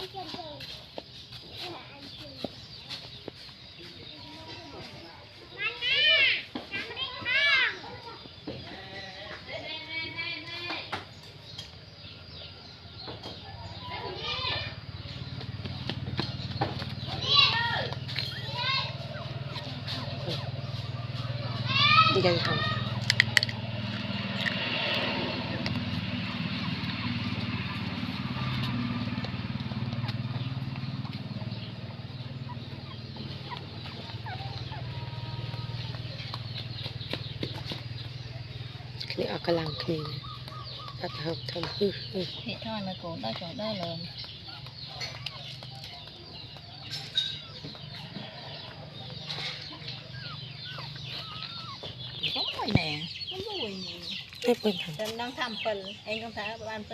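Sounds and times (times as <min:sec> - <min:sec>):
chickens clucking: 0:00.0 - 0:56.9
engine humming: 0:00.0 - 0:56.9.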